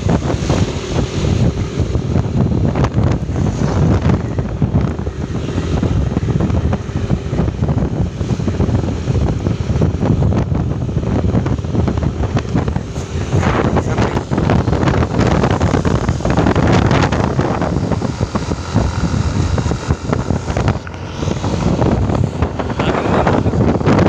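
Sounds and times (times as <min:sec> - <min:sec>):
vehicle engine and road noise: 0:00.0 - 0:24.0
wind buffeting microphone: 0:00.0 - 0:24.0.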